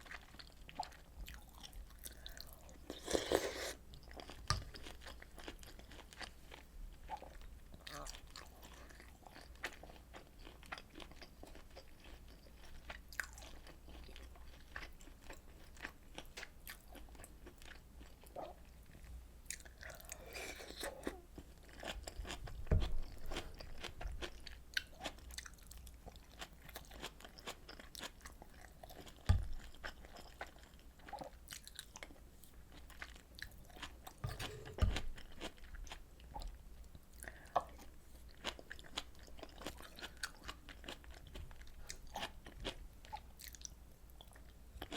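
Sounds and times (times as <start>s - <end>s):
chewing food: 0.0s - 44.9s.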